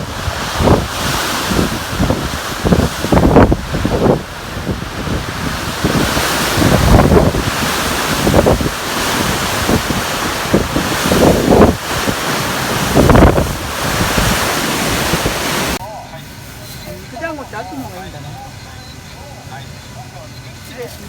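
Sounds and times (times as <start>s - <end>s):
wind gusting against microphone: 0.0s - 21.0s.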